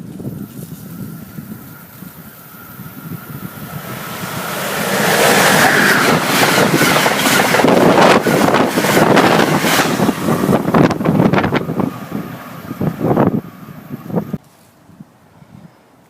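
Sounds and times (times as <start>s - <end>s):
train passing close by: 0.0s - 14.4s.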